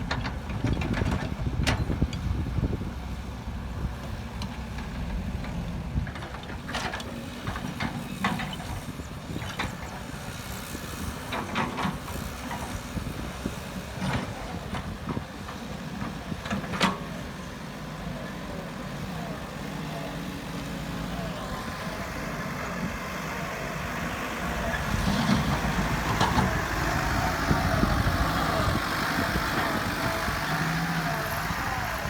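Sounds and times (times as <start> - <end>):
diesel machinery rumbling: 0.0 - 32.0.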